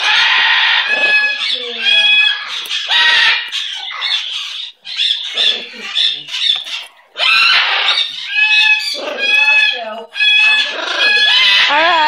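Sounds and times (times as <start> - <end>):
parrot chirps and calls: 0.0 - 12.0
parrot squawking: 0.0 - 12.0.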